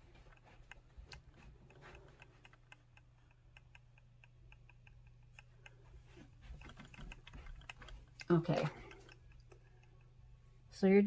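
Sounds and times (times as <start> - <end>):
light regular ticking: 0.0 - 11.0.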